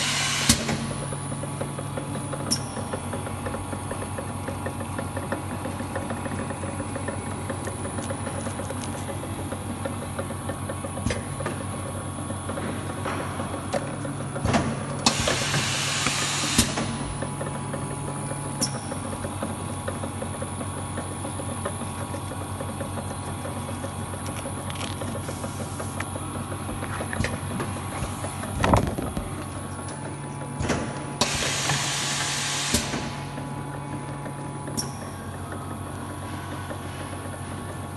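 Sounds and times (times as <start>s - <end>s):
machine humming: 2.6s - 37.9s.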